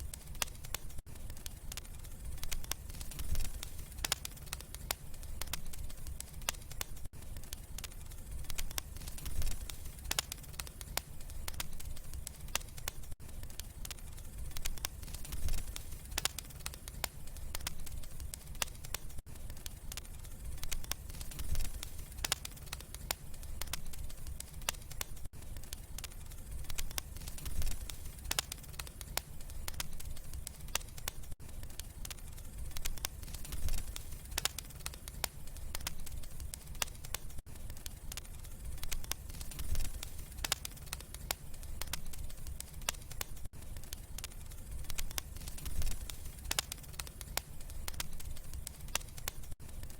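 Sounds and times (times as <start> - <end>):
low rumble of flames: 0.0 - 49.9
wood fire crackling and popping: 0.0 - 49.9.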